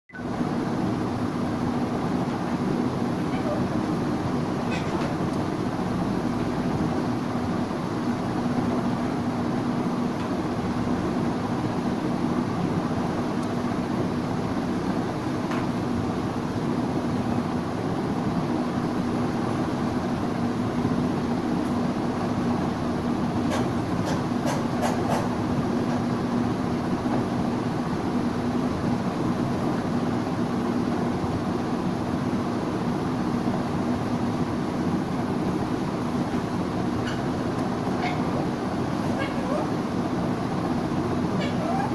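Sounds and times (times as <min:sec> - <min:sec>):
machine hum with hiss: 0:00.2 - 0:41.9.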